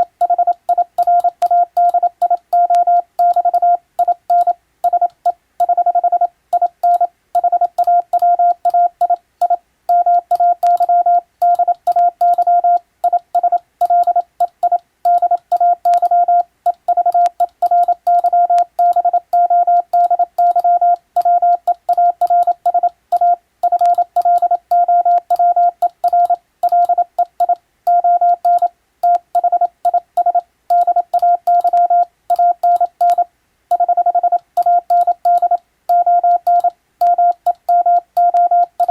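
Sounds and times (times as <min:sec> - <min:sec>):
morse code tone: 0:00.0 - 0:38.9.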